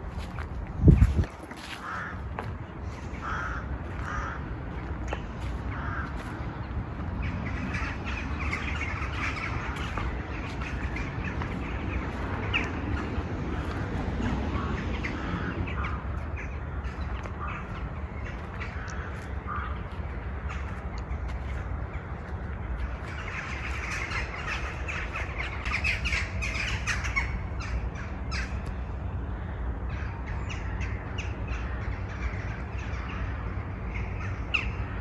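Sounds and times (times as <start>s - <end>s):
low outdoor rumble: 0.0s - 35.0s
small birds chirping: 0.2s - 28.8s
crows cawing: 1.0s - 35.0s.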